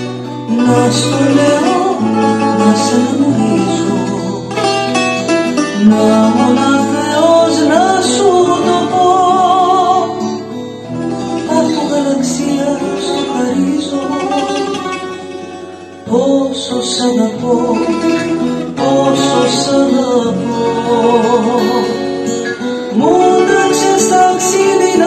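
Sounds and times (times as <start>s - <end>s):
woman singing: 0.0s - 4.9s, 5.6s - 15.1s, 16.1s - 22.2s, 22.9s - 25.0s
acoustic guitars playing: 0.0s - 25.0s.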